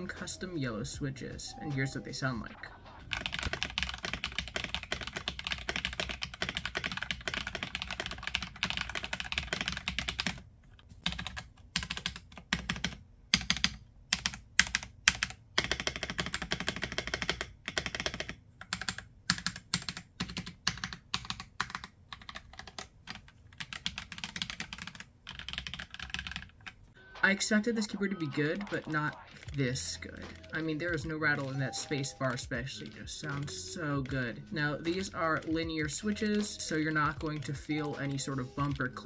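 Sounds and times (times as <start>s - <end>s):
typing on mechanical keyboard: 3.1s - 10.4s, 11.0s - 26.8s, 28.6s - 39.0s.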